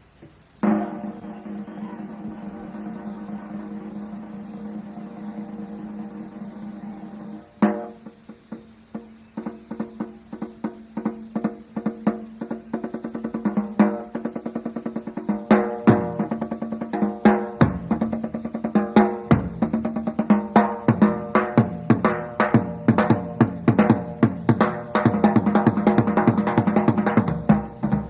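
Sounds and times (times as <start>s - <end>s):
rock drum kit solo: 0.6s - 28.0s.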